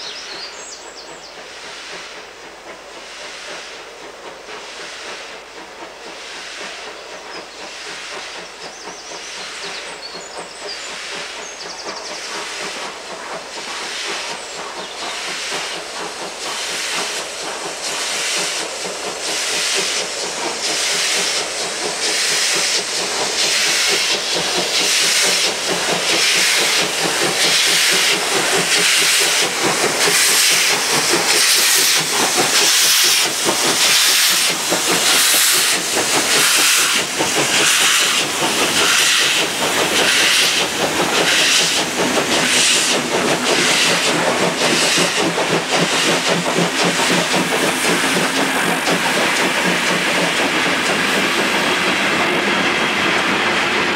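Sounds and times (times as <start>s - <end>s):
steam hissing: 0.0s - 53.9s
steam locomotive exhaust beating: 0.0s - 53.9s.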